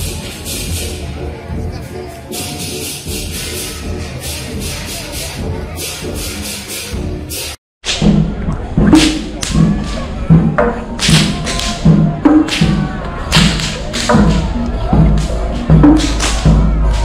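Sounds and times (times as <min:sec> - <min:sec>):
voices: 0:00.0 - 0:07.6, 0:08.2 - 0:17.0
drums beating: 0:02.4 - 0:17.0.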